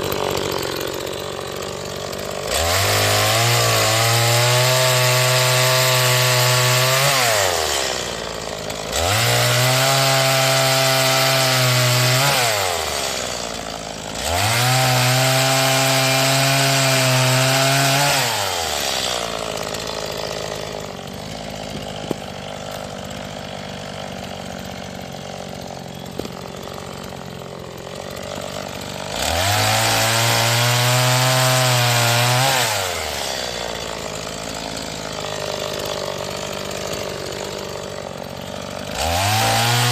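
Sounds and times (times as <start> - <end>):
chainsaw engine revving and idling: 0.0 - 39.9.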